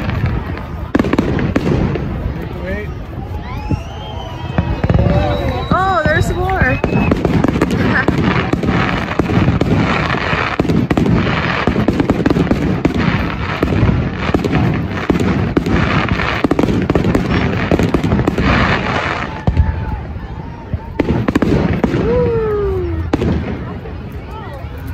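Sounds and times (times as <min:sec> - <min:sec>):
fireworks bangs: 0:00.0 - 0:24.9
fireworks crackling: 0:00.0 - 0:24.9.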